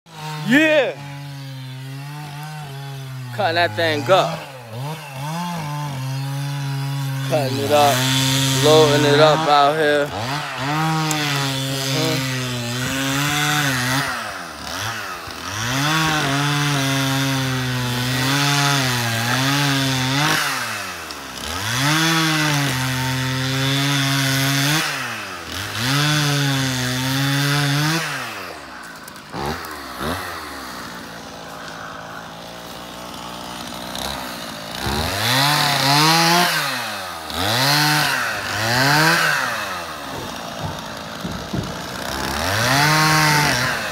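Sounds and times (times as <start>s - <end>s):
chainsaw cutting wood: 0.1s - 43.9s.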